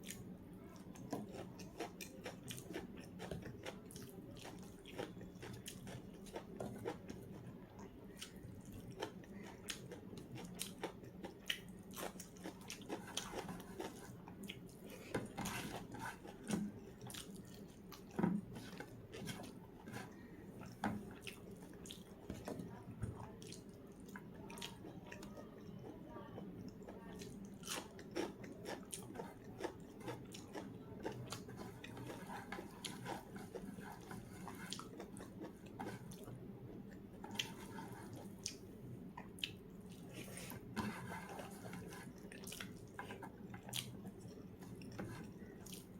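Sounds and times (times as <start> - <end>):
faint low hum: 0.0 - 45.9
person chewing food: 0.0 - 45.9.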